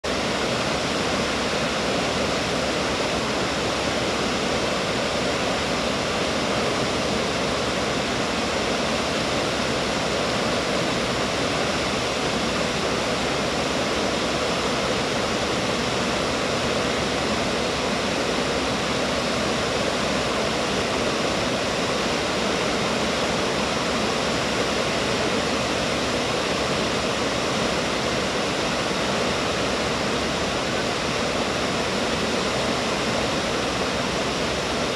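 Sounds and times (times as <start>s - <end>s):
water rushing over a dam spillway: 0.1s - 34.9s.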